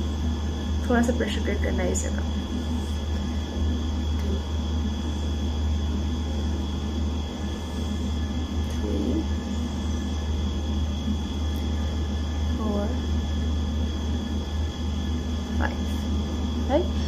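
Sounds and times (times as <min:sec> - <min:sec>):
low rumbling hum: 0:00.0 - 0:17.0.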